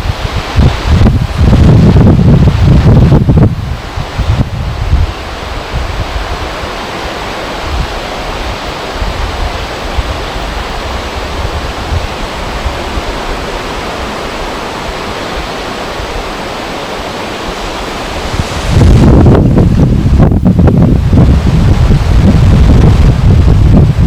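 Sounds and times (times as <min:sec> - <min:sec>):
river water flowing: 0:00.0 - 0:24.0
wind buffeting microphone: 0:00.0 - 0:24.0
wind rushing: 0:00.0 - 0:24.0.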